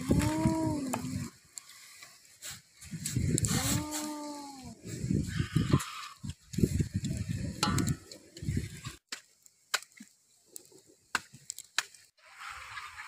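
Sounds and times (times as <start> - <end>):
wood fire crackling and popping: 0.0 - 12.2.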